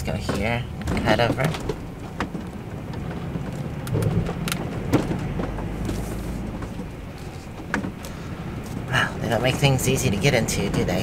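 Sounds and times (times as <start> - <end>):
knocks and rattles: 0.0 - 11.0
motorhome engine rumble: 0.0 - 11.0.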